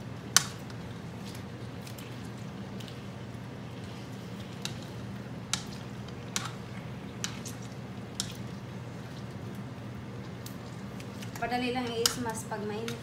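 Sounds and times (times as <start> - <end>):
wet squishing of grapes: 0.1 - 13.0.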